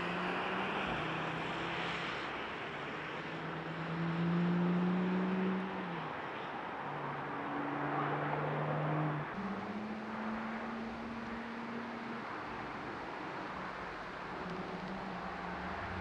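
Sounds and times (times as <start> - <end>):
car engine cruising: 0.0 - 16.0
tyre and road noise: 0.0 - 16.0.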